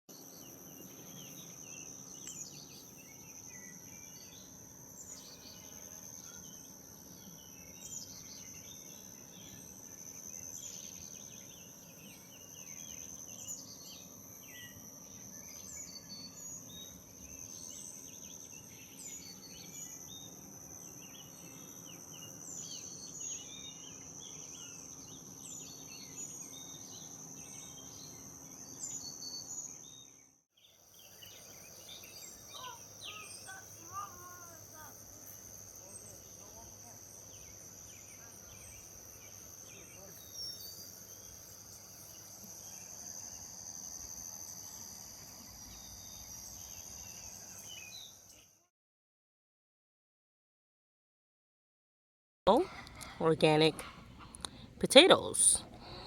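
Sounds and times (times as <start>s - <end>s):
small birds chirping: 0.1s - 48.6s, 52.5s - 56.0s.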